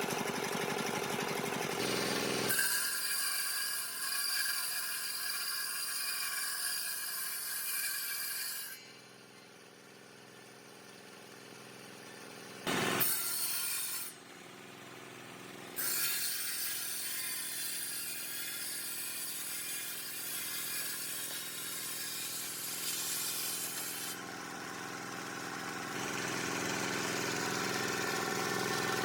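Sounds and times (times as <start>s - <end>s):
power tool cutting wood: 0.0s - 8.9s, 12.6s - 14.2s, 15.7s - 29.0s.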